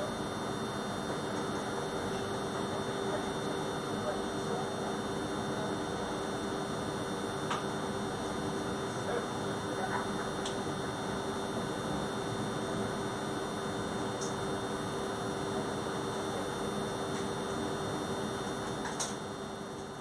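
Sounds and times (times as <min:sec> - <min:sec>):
constant low hum: 0:00.0 - 0:20.0.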